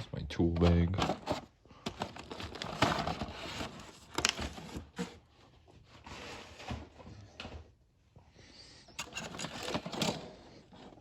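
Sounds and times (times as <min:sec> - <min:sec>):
rustling of stored items: 0:00.2 - 0:11.0.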